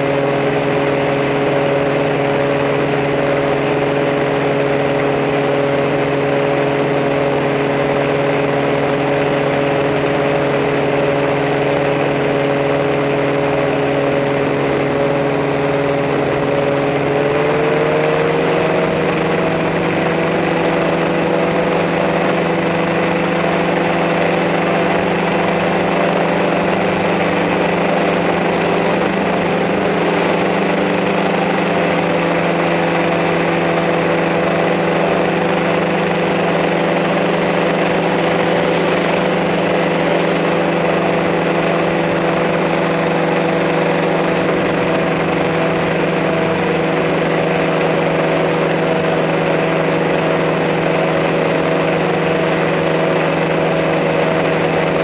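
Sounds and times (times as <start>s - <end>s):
drone hovering hum: 0.0s - 55.0s.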